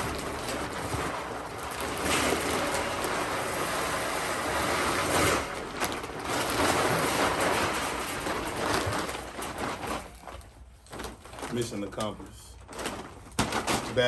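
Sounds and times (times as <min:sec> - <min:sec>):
grain pouring from a sack: 0:00.0 - 0:13.3.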